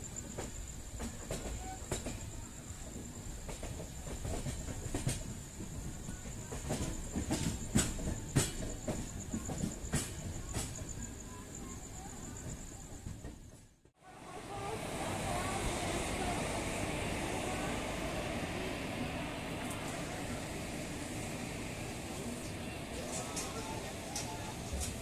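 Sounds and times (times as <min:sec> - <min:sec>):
train wheels rumbling: 0:00.0 - 0:25.0
wheels clacking over rail gaps: 0:00.2 - 0:11.2, 0:14.3 - 0:25.0.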